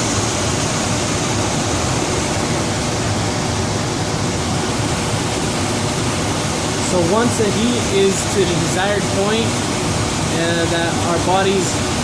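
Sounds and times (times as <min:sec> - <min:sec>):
furnace blower rushing air: 0:00.0 - 0:12.0.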